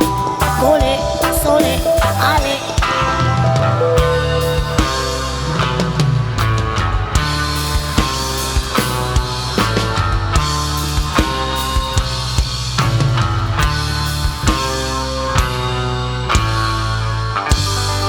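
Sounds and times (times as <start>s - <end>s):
drum kit beat: 0.0s - 16.9s
rock band playing live: 0.0s - 18.0s.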